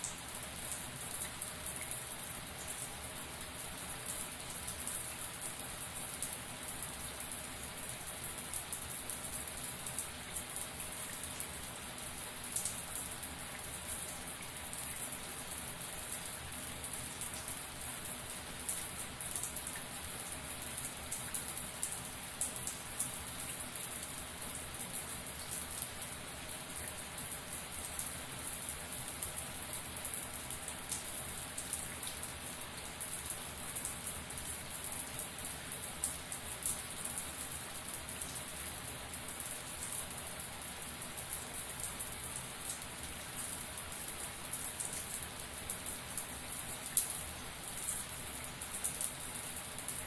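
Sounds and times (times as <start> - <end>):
shower running: 0.0 - 50.0.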